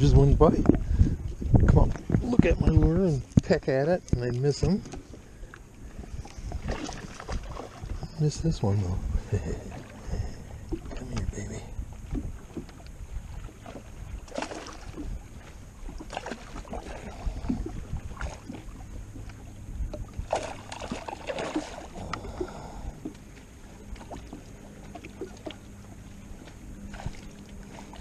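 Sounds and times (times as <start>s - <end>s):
steady low hum: 0.0s - 28.0s
water splashes: 0.0s - 28.0s.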